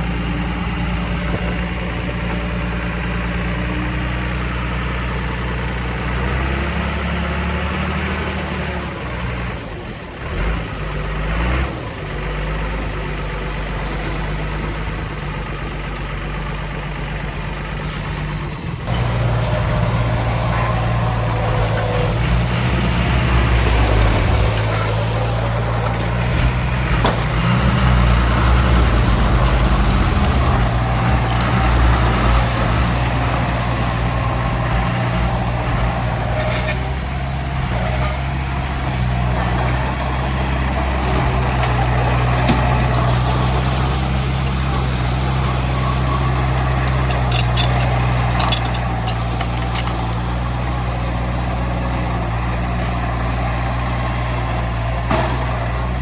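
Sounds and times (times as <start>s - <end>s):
heavy diesel machinery engine drone: 0.0s - 56.0s.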